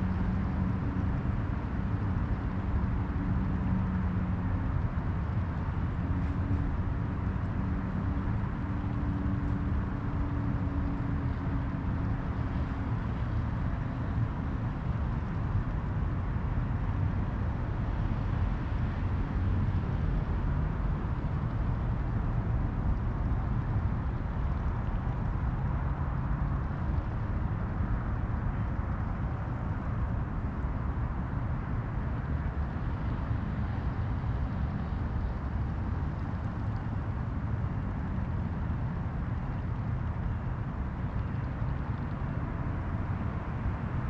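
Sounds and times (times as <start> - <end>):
low rumble of distant engines: 0.0 - 44.0.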